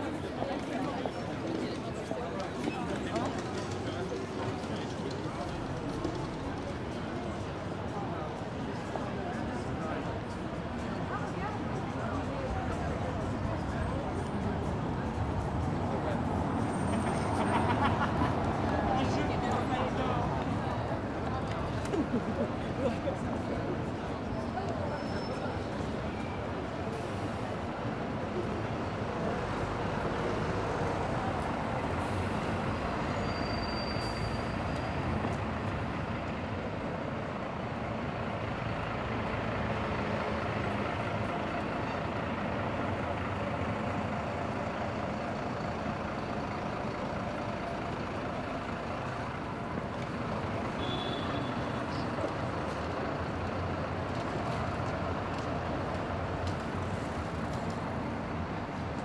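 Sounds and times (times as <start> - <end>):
bus running close by: 0.0 - 59.0
city street traffic: 0.0 - 59.0.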